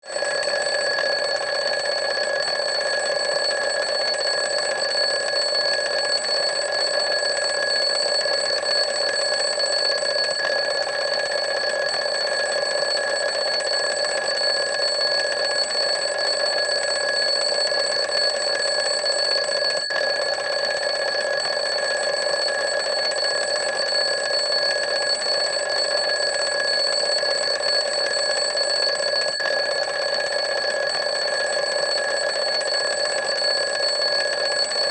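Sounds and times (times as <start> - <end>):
alarm clock ringing: 0.0 - 34.9.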